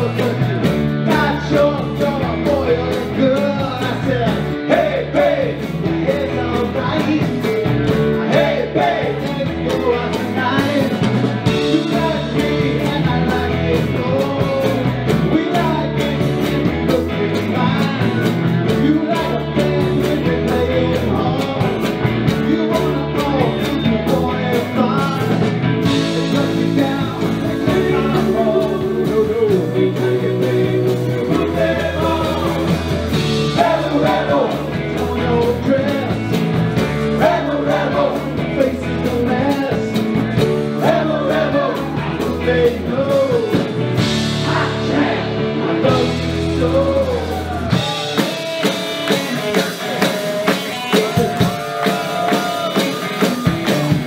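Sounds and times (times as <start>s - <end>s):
man singing into a microphone: 0.0s - 36.5s, 37.1s - 43.8s, 44.7s - 53.7s
rock band playing: 0.0s - 54.0s.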